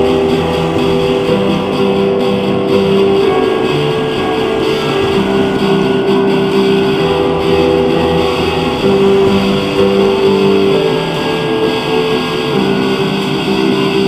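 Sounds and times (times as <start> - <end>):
instrumental guitar music: 0.0 - 14.0.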